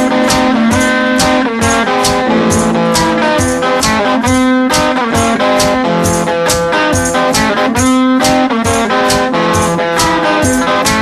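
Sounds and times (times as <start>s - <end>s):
guitar-led band music: 0.0s - 11.0s
steady drum beat: 0.0s - 11.0s.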